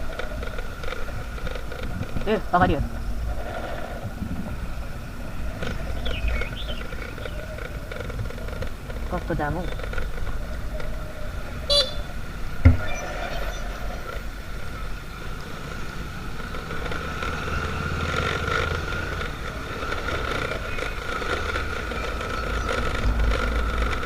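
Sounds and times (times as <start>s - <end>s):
engines running: 0.0s - 24.0s
steady high whine: 0.0s - 24.0s.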